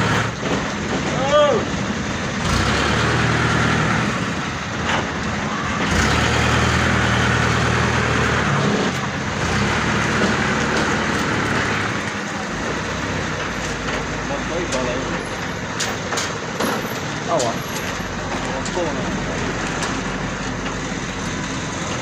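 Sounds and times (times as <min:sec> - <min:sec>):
truck engines running: 0:00.0 - 0:22.0.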